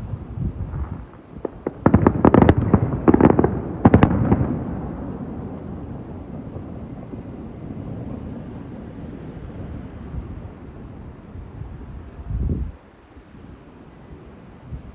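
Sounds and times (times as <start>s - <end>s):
fireworks bangs and crackles: 0.0s - 14.9s.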